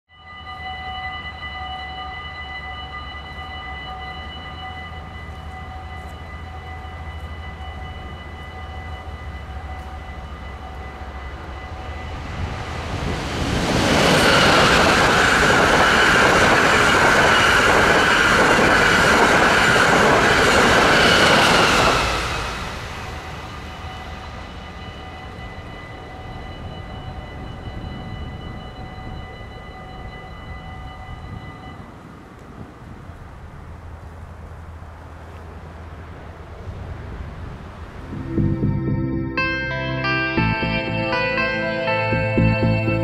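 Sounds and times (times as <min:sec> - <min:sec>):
level-crossing warning bells: 0:00.1 - 0:33.3, 0:38.0 - 0:43.0
electric train rushing past: 0:00.3 - 0:43.0.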